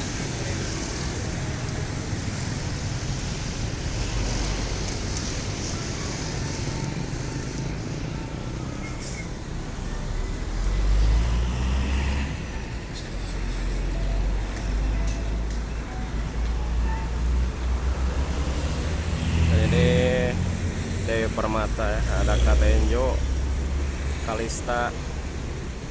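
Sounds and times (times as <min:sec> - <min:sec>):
bus engines rumbling past: 0:00.0 - 0:25.9
road traffic: 0:00.0 - 0:25.9.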